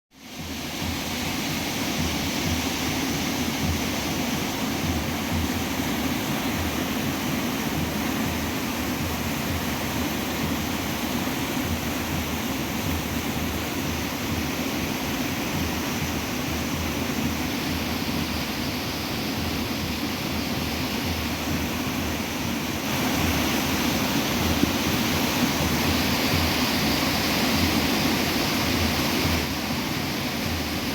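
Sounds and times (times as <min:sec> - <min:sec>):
river water rushing: 0:00.2 - 0:30.9.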